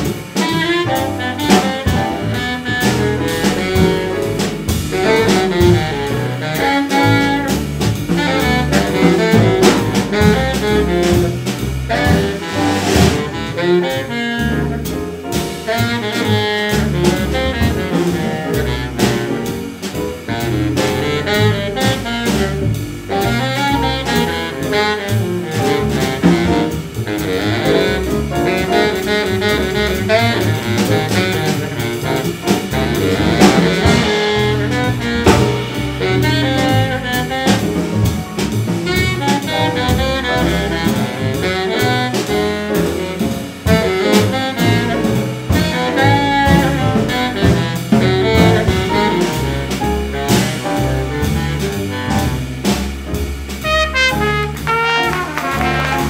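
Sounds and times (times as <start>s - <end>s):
baritone saxophone lead line: 0.0s - 56.0s
drum kit: 0.0s - 56.0s
walking upright bass: 0.0s - 56.0s.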